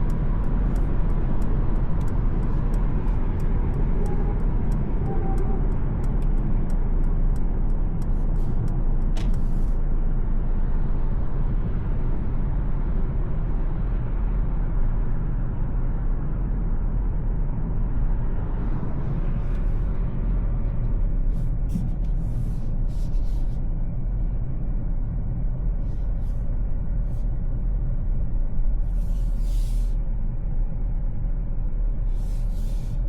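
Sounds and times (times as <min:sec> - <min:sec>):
car cabin road noise: 0:00.0 - 0:33.0
car engine: 0:00.0 - 0:33.0.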